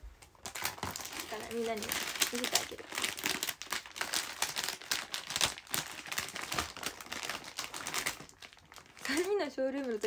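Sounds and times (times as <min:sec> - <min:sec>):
plastic packaging crinkling: 0:00.2 - 0:10.0.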